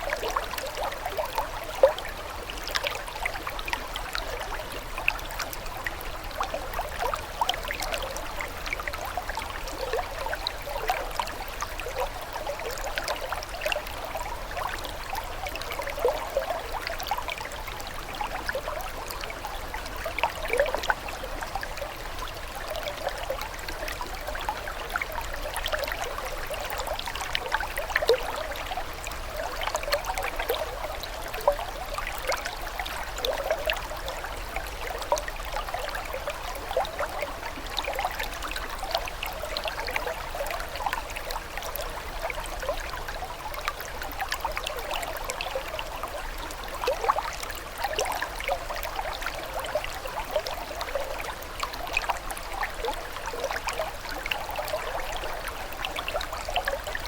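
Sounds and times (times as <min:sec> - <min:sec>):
water trickling and burbling: 0:00.0 - 0:57.0.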